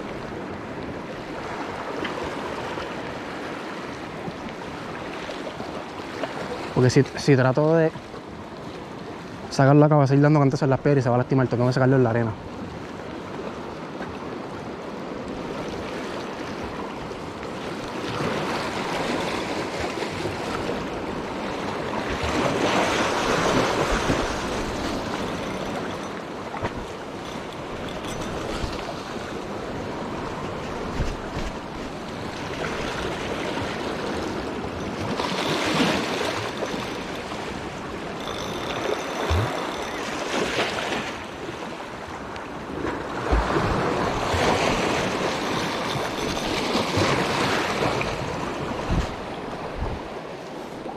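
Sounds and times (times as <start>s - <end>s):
waves breaking over rocks: 0.0s - 50.9s.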